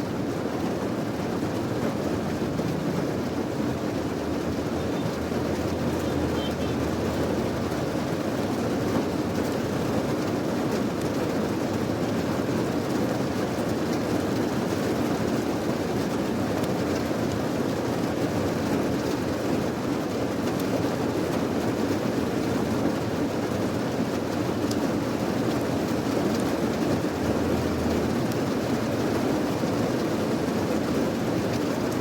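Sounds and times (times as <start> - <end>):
heavy rain rushing: 0.0 - 32.0
rain drop clicks: 1.5 - 19.3, 24.0 - 32.0.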